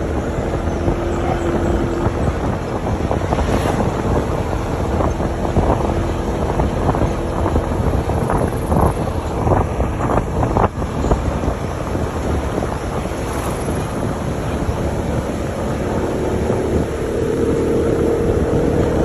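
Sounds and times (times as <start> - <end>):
engine and road noise rumble: 0.0 - 19.0
wind rushing over microphone: 0.0 - 19.0.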